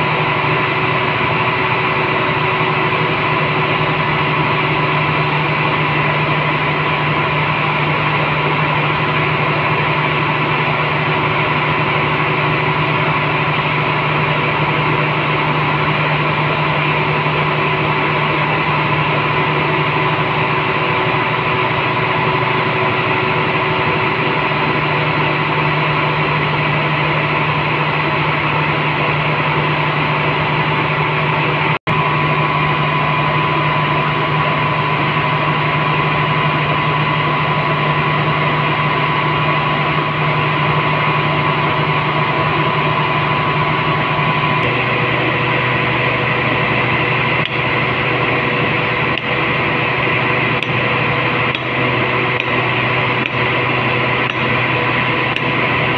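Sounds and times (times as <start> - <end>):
machinery drone with whine: 0.0 - 55.9.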